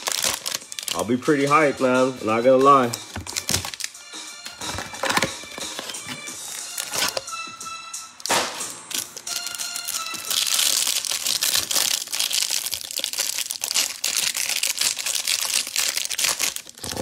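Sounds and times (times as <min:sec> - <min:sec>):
small packaging clicks: 0:00.0 - 0:01.0, 0:02.9 - 0:07.3, 0:08.2 - 0:17.0
plastic wrapping crinkling: 0:00.0 - 0:01.4, 0:02.8 - 0:07.3, 0:08.9 - 0:17.0
faint background music: 0:00.0 - 0:17.0.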